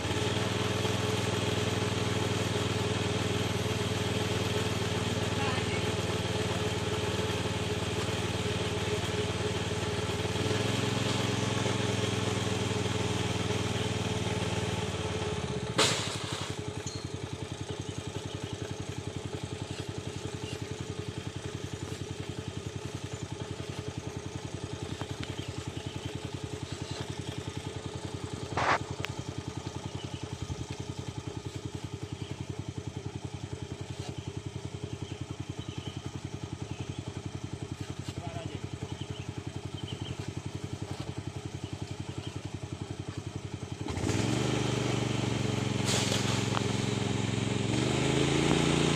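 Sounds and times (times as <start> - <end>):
small engine chugging: 0.0 - 48.9.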